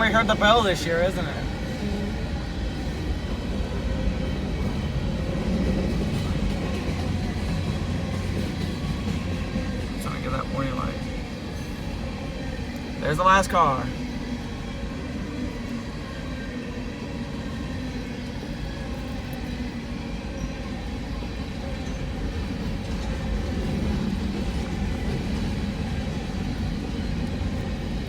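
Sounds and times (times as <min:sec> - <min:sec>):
freight train wheels rumbling on rails: 0:00.0 - 0:28.0.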